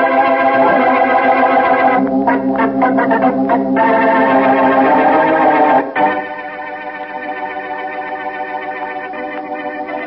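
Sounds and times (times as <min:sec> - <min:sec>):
organ chords: 0:00.0 - 0:10.0.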